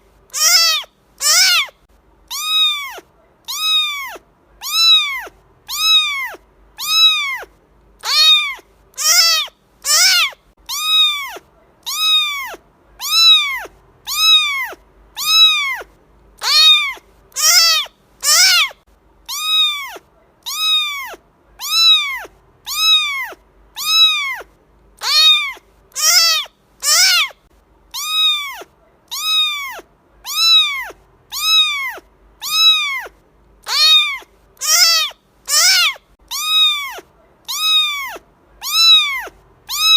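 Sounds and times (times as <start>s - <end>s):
cat meowing: 0.3s - 1.7s, 2.3s - 39.9s.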